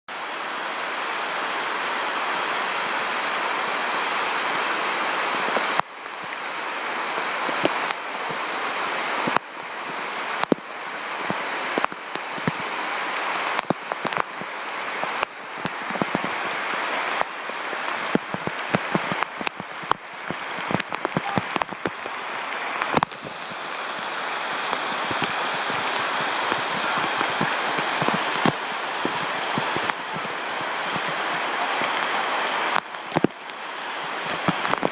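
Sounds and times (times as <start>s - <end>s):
heavy rain pouring: 0.1s - 34.9s
big raindrops splatting: 5.3s - 34.9s.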